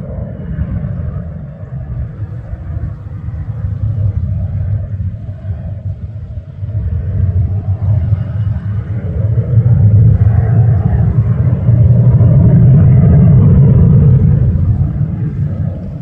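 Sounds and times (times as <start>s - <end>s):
distant jet engine rumble: 0.0s - 16.0s.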